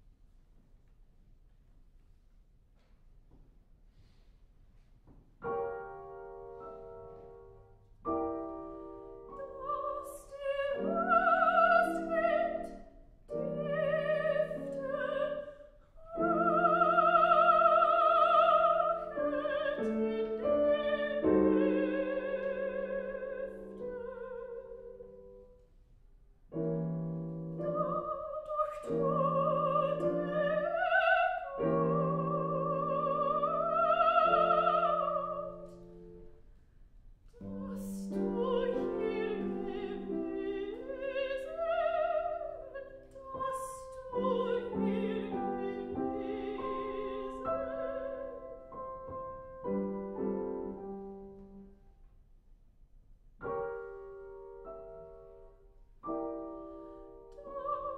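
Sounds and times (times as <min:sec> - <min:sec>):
grand piano chords: 0:05.4 - 0:25.8, 0:26.4 - 0:52.1, 0:53.3 - 0:57.9
soprano singing: 0:05.6 - 0:25.6, 0:26.6 - 0:36.3, 0:37.3 - 0:51.7, 0:53.9 - 0:57.9.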